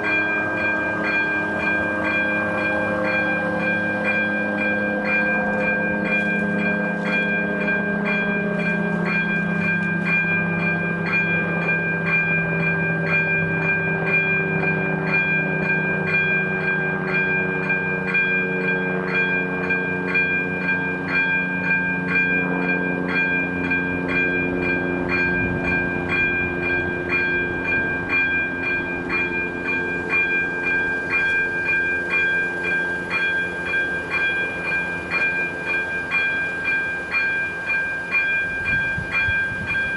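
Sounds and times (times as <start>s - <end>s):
level crossing bell ringing: 0.0s - 39.9s
train engine drone: 0.0s - 39.9s.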